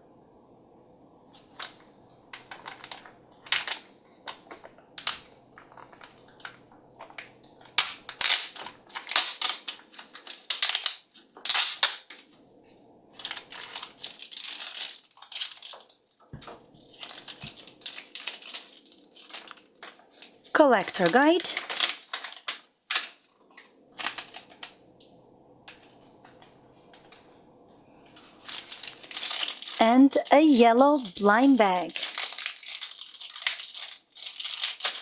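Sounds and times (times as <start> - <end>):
plastic packaging crinkling: 1.4 - 12.4, 13.1 - 35.0.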